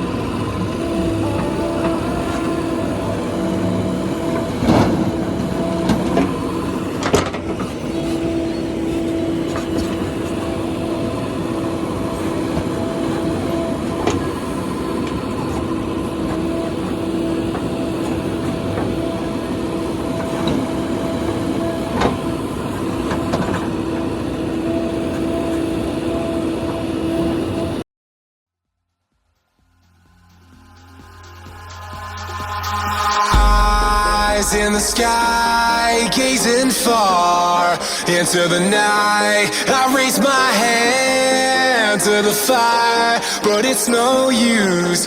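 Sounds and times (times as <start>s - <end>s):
backhoe engine droning: 0.0s - 27.8s, 30.0s - 45.0s.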